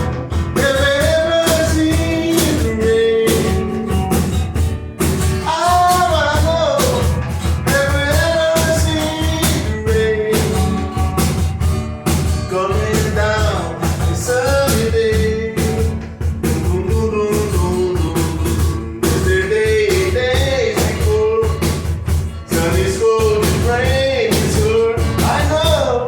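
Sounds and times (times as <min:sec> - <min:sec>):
person singing: 0:00.0 - 0:04.0, 0:05.4 - 0:11.1, 0:12.5 - 0:21.8, 0:22.5 - 0:26.0
acoustic guitars playing: 0:00.0 - 0:26.0
cajon beat: 0:00.0 - 0:26.0.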